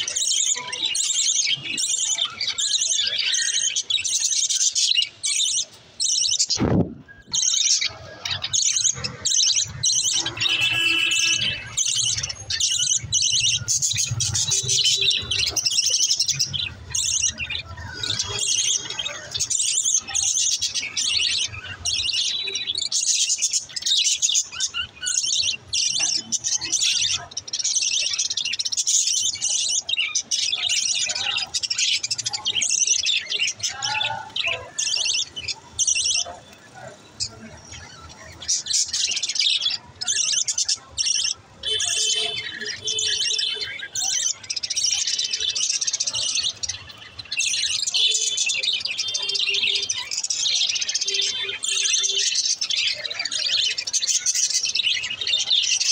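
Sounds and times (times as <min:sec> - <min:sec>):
budgerigars chirping: 0:00.0 - 0:55.9.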